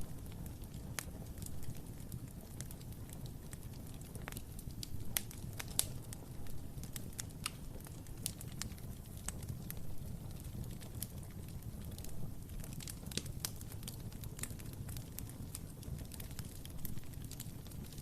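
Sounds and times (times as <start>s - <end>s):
fire crackling: 0.0s - 18.0s
fire popping and snapping: 0.0s - 18.0s.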